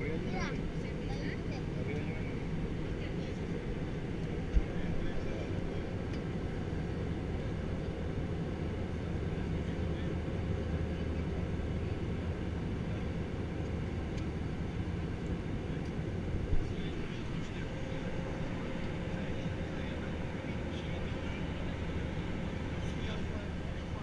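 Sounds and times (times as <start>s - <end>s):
airplane cabin drone: 0.0s - 24.0s.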